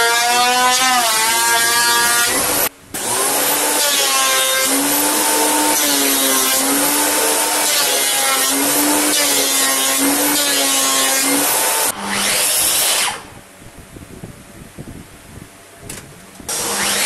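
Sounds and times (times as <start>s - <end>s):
thickness planer whining: 0.0s - 13.4s, 16.5s - 17.0s.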